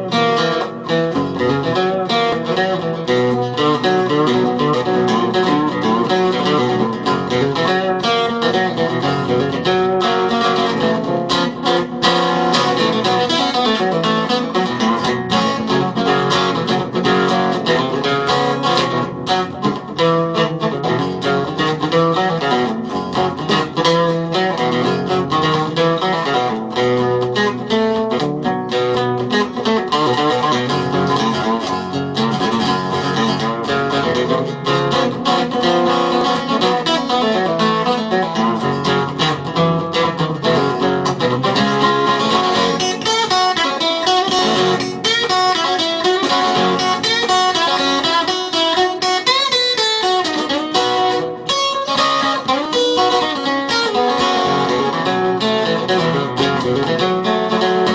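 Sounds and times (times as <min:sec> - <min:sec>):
acoustic blues guitar: 0:00.0 - 0:57.9.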